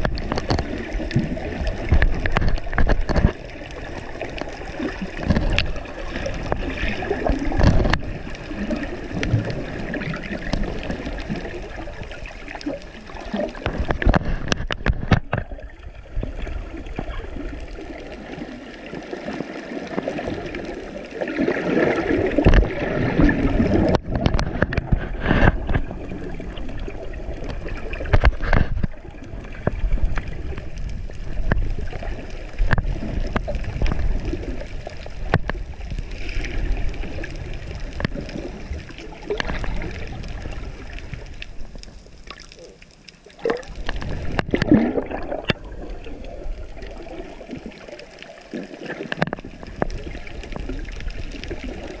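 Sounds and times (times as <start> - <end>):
water gurgling and sloshing: 0.0 - 52.0.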